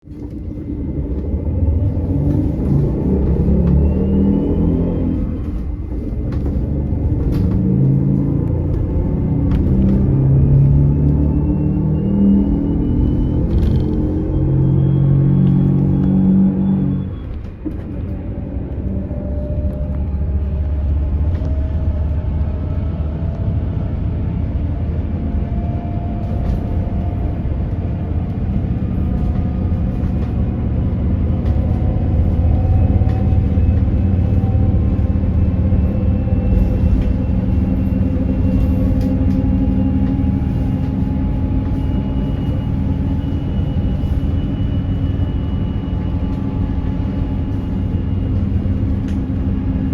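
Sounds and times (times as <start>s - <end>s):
low road rumble: 0.0s - 49.9s.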